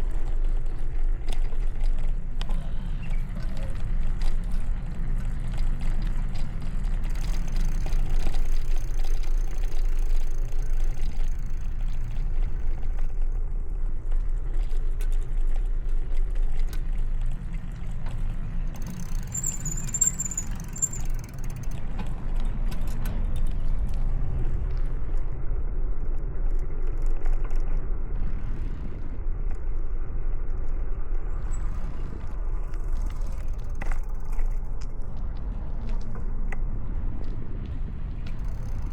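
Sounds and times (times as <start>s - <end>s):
bicycle road noise: 0.0s - 38.9s.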